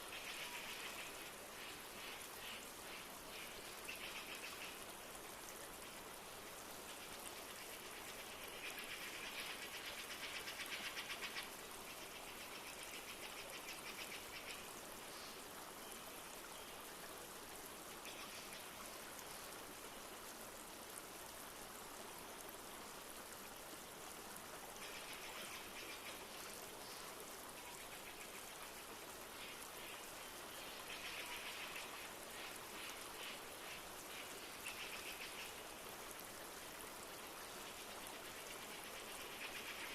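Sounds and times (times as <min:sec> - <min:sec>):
light rain: 0:00.0 - 0:39.9
river flowing: 0:00.0 - 0:39.9.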